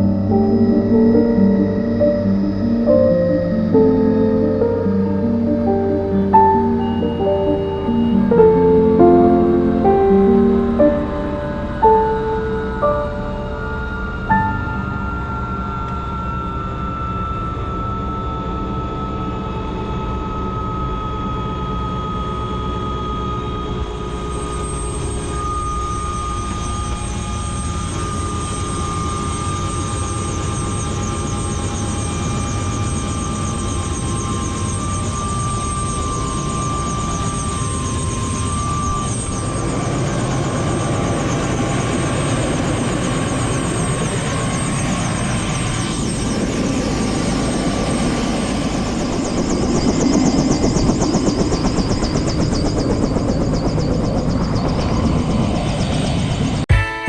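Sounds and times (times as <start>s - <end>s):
helicopter rotor and engine: 0.0s - 56.8s
high engine whine: 0.0s - 57.0s.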